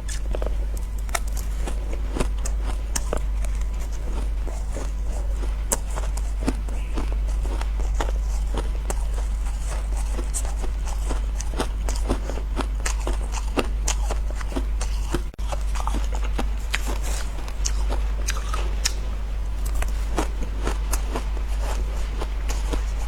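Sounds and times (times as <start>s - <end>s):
ice crunching while chewed: 0.0s - 23.0s
steady low hum: 0.0s - 23.0s.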